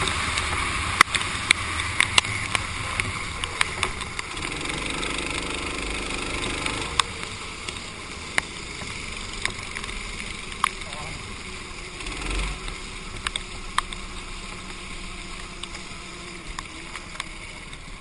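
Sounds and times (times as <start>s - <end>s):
go-kart engine: 0.0s - 18.0s.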